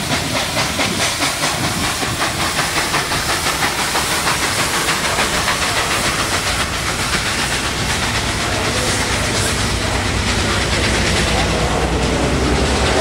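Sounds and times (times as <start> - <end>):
coaches rumbling over rails: 0.0 - 13.0
steam hiss: 0.0 - 13.0
steam locomotive exhaust chuffs: 0.0 - 13.0.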